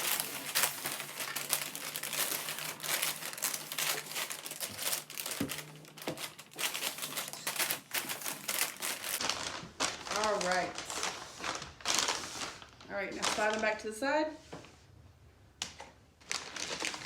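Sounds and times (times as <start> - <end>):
treat bags rustling and crinkling: 0.0 - 14.4, 15.8 - 17.0.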